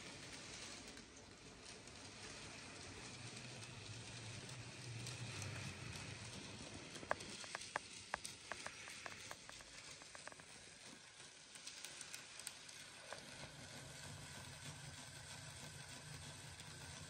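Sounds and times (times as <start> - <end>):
train wheels clicking on rails: 0.0 - 17.0.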